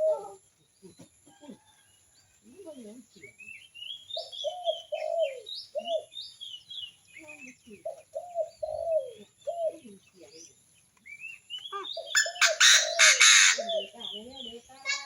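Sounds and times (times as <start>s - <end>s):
birds calling low notes: 2.5s - 15.0s.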